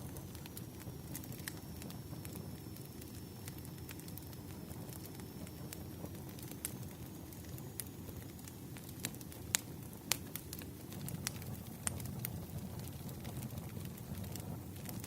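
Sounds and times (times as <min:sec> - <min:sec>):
firewood burning and crackling: 0:00.0 - 0:15.0.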